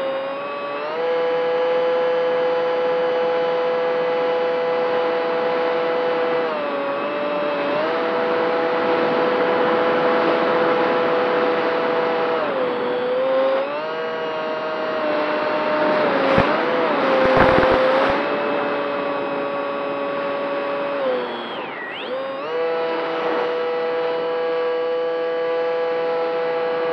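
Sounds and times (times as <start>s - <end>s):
model airplane motor whine: 0.0s - 26.9s.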